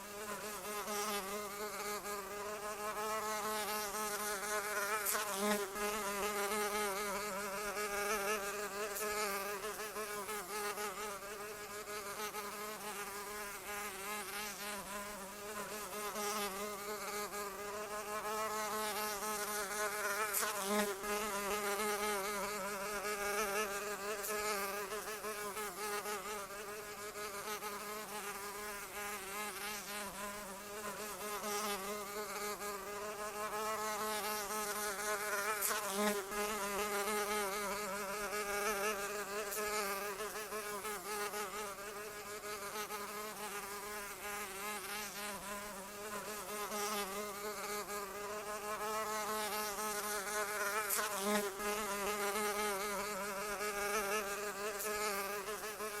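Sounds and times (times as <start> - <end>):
flying insect buzzing: 0.0 - 56.0.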